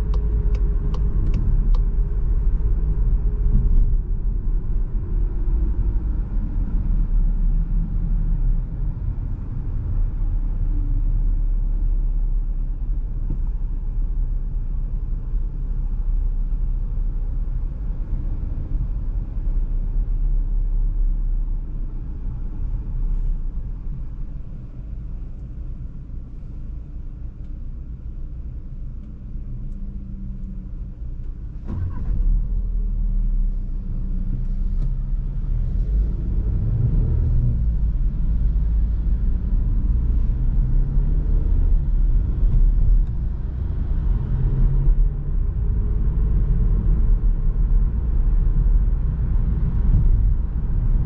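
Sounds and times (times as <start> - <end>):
car engine while driving: 0.0 - 51.0.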